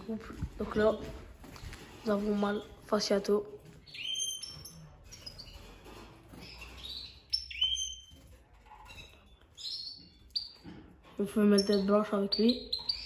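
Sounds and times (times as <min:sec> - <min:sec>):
finches chirping: 0:00.8 - 0:13.0.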